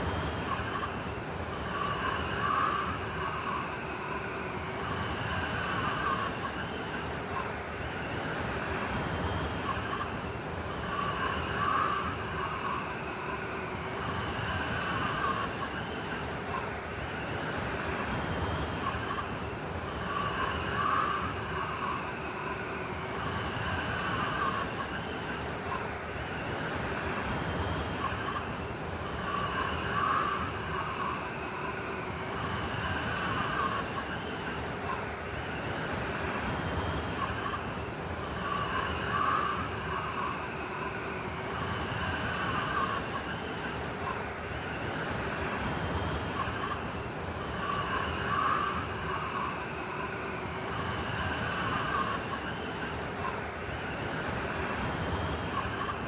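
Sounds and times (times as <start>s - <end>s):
blizzard wind whistling: 0.0s - 56.0s.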